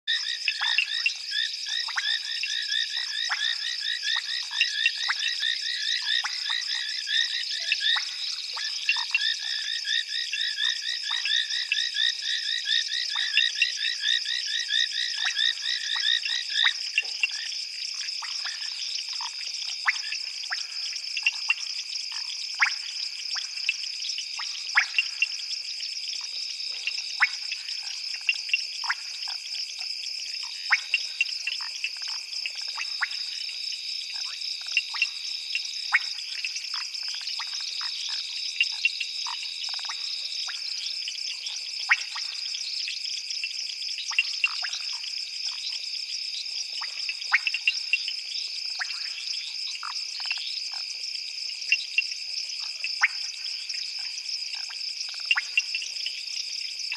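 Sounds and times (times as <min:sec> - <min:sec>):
frogs calling: 0:00.1 - 0:51.0, 0:51.6 - 0:56.0.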